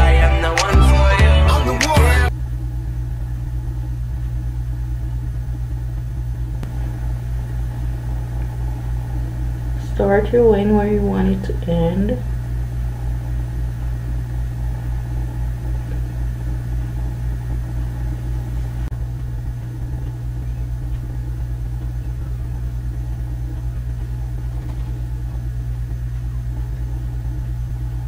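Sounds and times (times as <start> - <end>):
low throbbing mechanical hum: 0.0 - 28.0.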